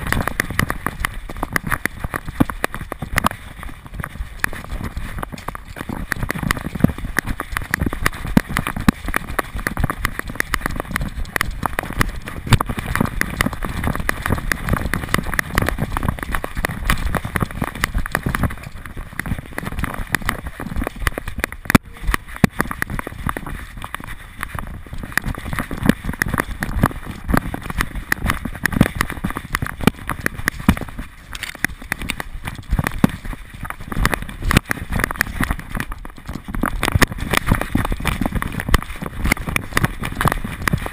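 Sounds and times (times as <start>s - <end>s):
camera clattering and rubbing: 0.0s - 40.9s.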